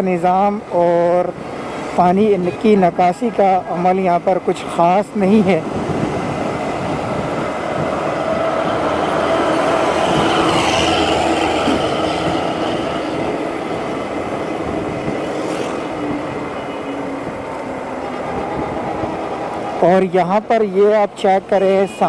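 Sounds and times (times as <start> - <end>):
engine and road noise: 0.0 - 22.0
vehicles passing close by: 0.0 - 22.0.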